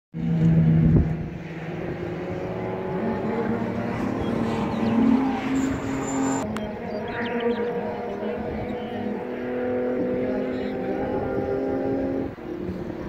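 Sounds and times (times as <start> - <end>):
racing car engine accelerating: 0.2 - 13.0.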